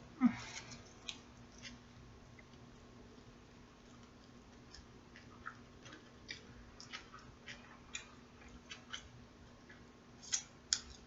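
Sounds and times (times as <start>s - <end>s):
person chewing food: 0.4s - 11.0s.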